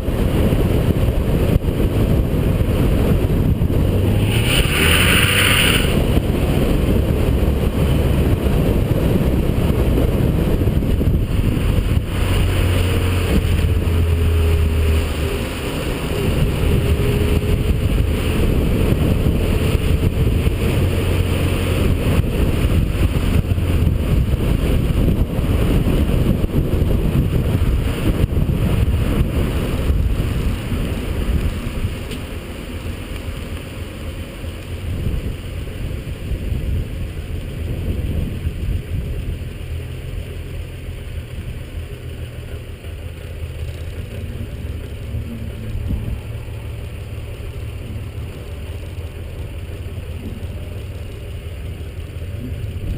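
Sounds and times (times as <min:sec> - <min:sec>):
car engine running hard: 0:00.0 - 0:52.9
wind and road noise: 0:00.0 - 0:52.9.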